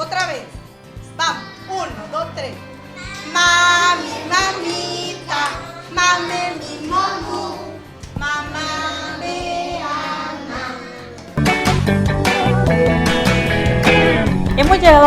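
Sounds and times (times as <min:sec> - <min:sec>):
instrumental backing: 0:00.3 - 0:15.0
children singing: 0:00.8 - 0:13.6.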